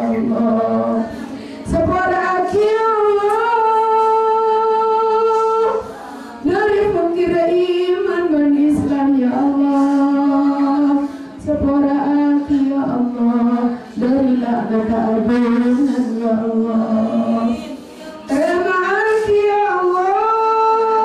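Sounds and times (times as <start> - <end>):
woman chanting into a microphone: 0.0 - 21.0.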